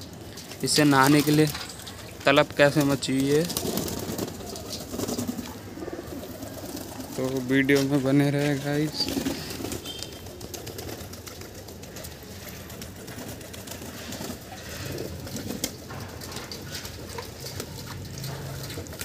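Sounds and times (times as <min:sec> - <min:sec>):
pigeons cooing: 0:00.0 - 0:19.0
wing flutters: 0:00.0 - 0:19.0.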